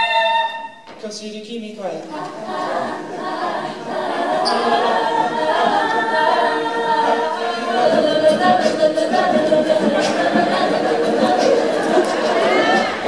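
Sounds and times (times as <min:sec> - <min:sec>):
a cappella group singing harmony: 0:02.1 - 0:13.0.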